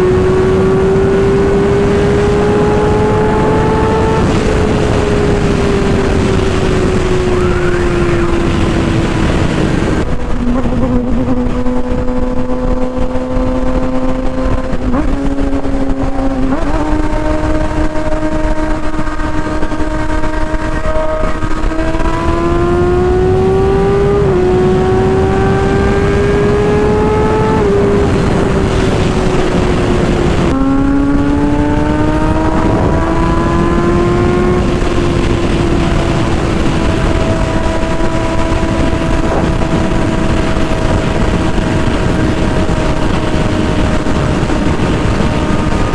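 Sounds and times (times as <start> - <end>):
sportbike engine at high revs: 0.0 - 45.9.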